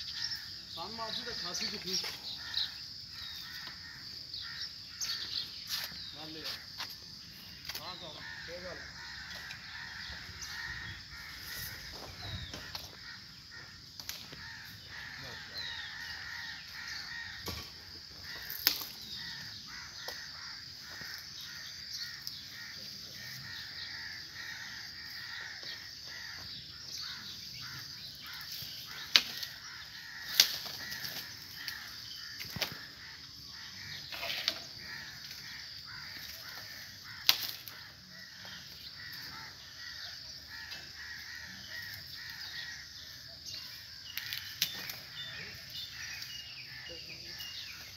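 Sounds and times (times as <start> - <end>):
birds calling: 0.0 - 47.9.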